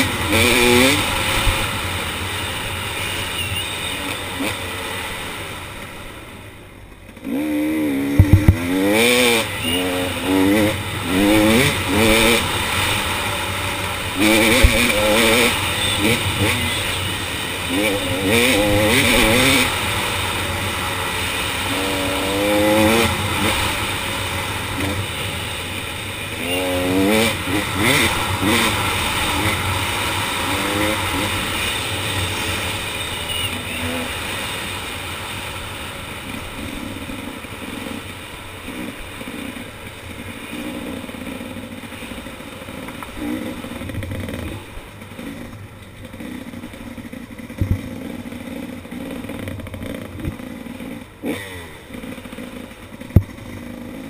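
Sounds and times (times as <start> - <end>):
dirt bike engine revving: 0.0 - 6.4, 7.1 - 54.0.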